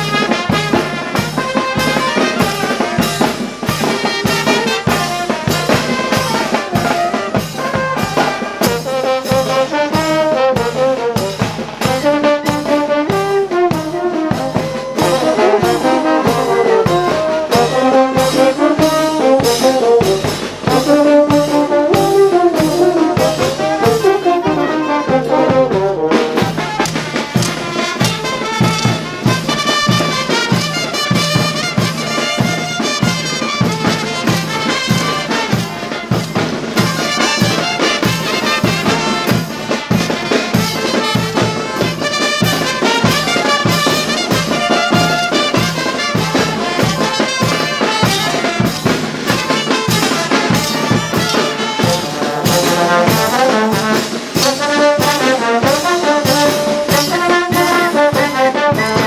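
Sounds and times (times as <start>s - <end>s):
brass band playing: 0.0s - 59.0s
steady drum beat: 0.0s - 59.0s.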